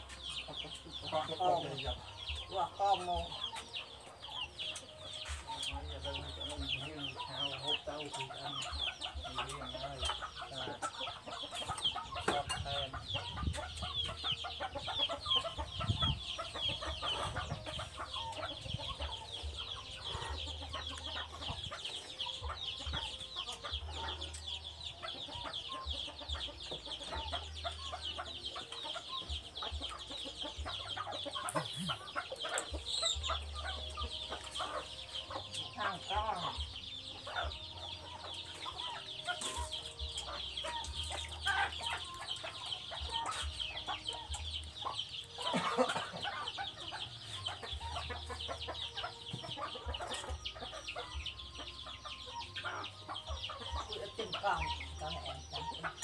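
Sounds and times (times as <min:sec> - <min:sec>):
high peeping bird calls: 0:00.0 - 0:56.0.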